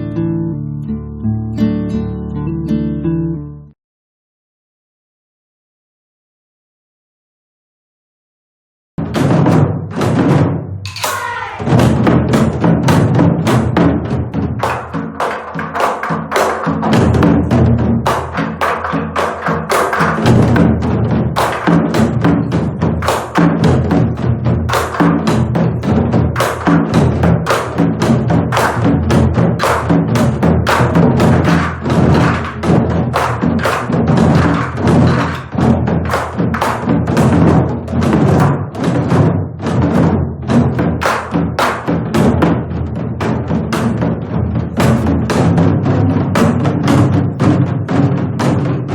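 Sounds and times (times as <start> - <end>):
barrel drums struck in fast rhythm: 9.0 - 48.9
traditional accompaniment music: 9.1 - 48.9.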